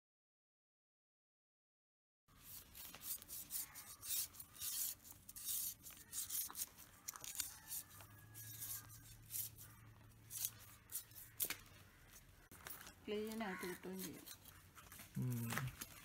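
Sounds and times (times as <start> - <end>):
knife scraping fish: 2.4 - 16.0.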